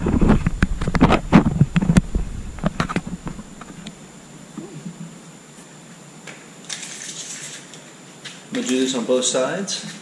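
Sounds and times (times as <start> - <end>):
faint high whine: 0.0 - 10.0.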